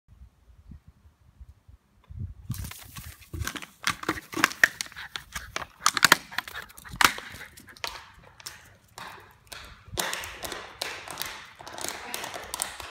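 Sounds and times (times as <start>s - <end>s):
plastic bottle crackling and crunching: 2.5s - 12.9s.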